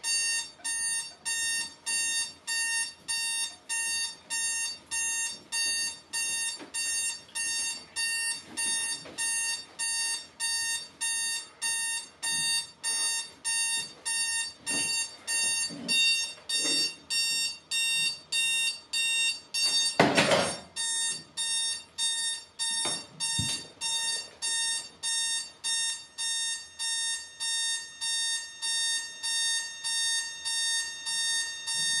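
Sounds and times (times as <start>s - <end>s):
digital alarm clock beeping: 0.0s - 32.0s.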